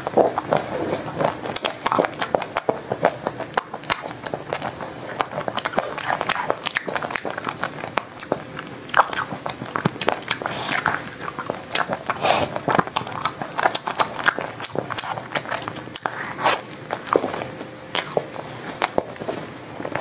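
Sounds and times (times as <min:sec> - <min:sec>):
wet mouth sounds: 0:00.0 - 0:20.0.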